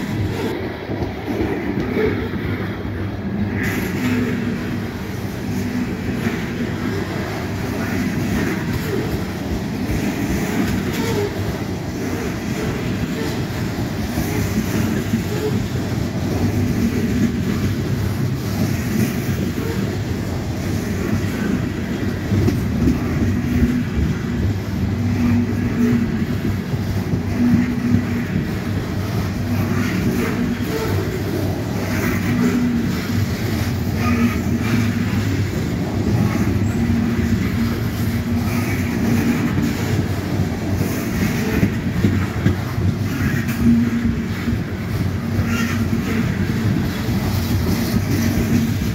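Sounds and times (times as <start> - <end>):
freight train wheels rumbling on rail: 0.0 - 48.9.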